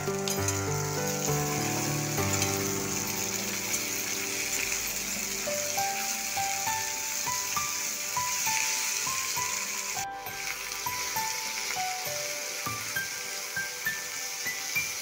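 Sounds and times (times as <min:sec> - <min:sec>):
food sizzling in hot oil: 0:00.0 - 0:15.0
light background music: 0:00.0 - 0:15.0.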